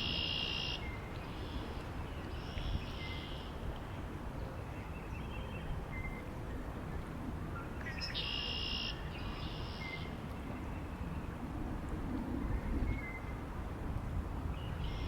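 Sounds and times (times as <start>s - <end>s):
wind with low rumble: 0.0s - 15.0s.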